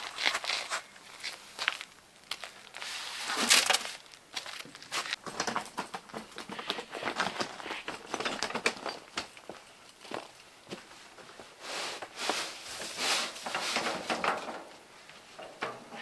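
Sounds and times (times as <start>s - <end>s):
scrapes and crunches: 0.0s - 16.0s.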